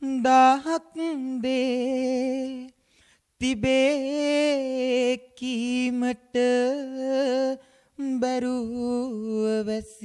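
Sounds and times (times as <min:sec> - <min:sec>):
man singing unaccompanied: 0:00.0 - 0:02.8, 0:03.4 - 0:10.0.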